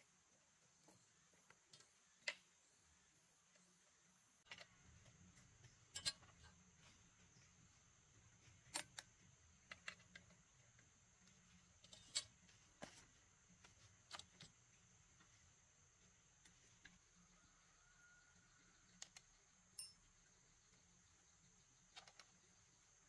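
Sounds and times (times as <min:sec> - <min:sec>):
steady high hiss: 0:00.0 - 0:18.8.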